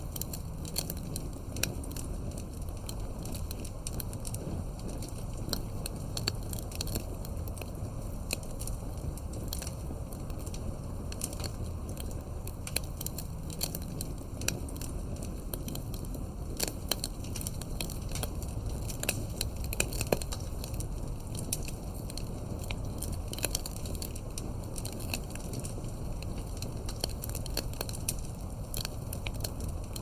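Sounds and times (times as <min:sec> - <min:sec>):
burning wood popping and crackling: 0:00.0 - 0:30.0
low rumble of flames: 0:00.0 - 0:30.0.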